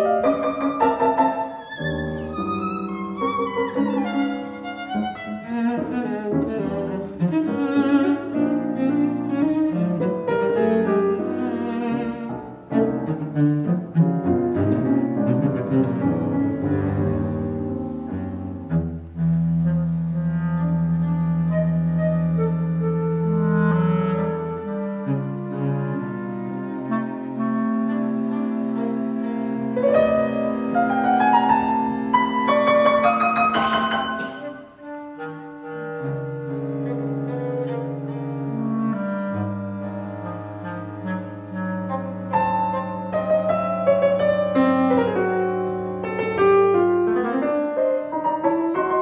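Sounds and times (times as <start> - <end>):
bowed cello: 0.0 - 49.0
piano chords: 0.0 - 49.0.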